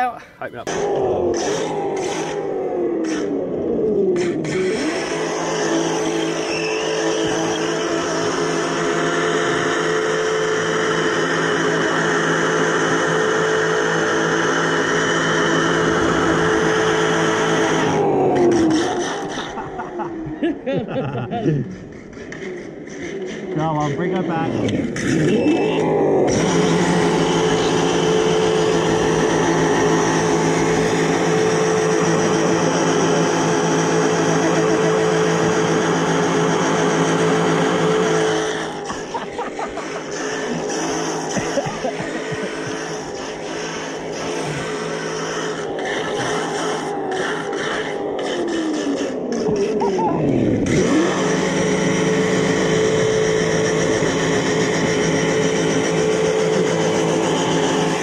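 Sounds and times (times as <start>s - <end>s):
rc car engine drone: 0.0s - 58.0s.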